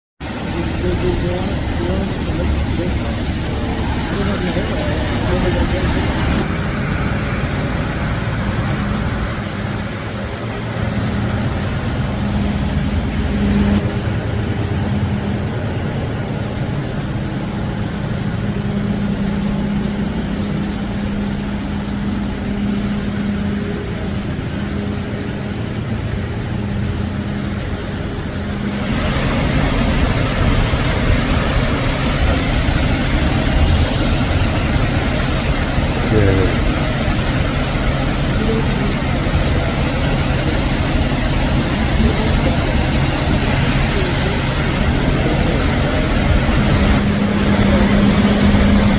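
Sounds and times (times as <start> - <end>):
vehicle engine idling: 0.2 - 48.9.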